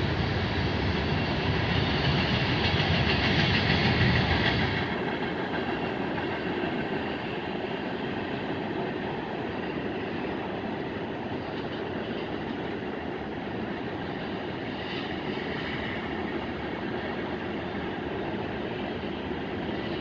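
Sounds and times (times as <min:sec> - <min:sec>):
freight train cars rolling: 0:00.0 - 0:20.0.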